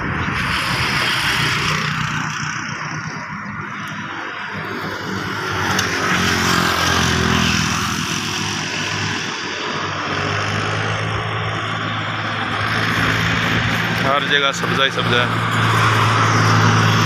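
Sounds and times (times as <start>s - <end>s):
engine hum: 0.0s - 17.0s
vehicle passing on motorway: 0.0s - 17.0s.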